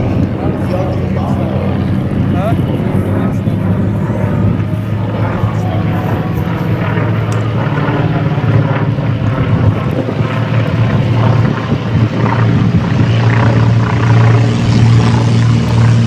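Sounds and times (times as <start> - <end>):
propeller plane engine drone: 0.0 - 16.0.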